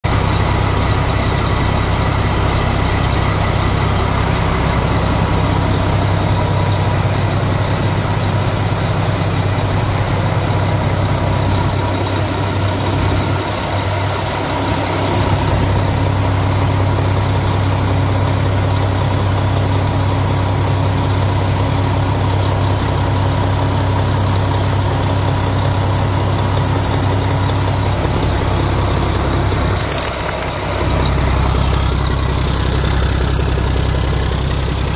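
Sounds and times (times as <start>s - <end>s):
diesel engine running steadily: 0.0s - 34.9s.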